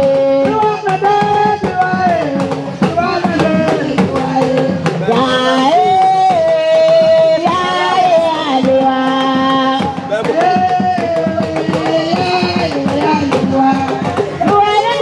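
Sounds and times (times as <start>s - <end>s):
drums beating: 0.0s - 15.0s.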